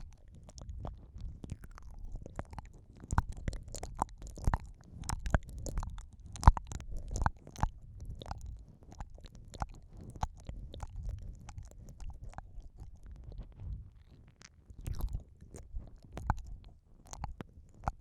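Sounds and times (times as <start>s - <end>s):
wet mouth clicks and smacks: 0.0s - 18.0s.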